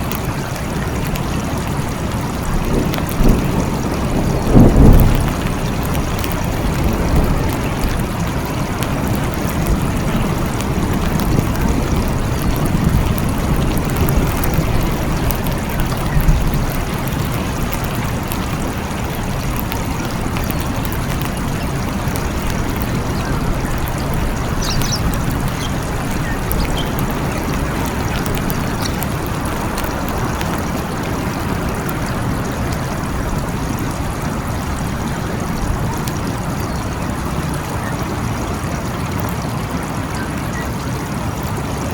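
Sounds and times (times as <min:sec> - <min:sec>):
heavy rain falling: 0:00.0 - 0:41.9
low rumble of thunder: 0:00.8 - 0:38.4.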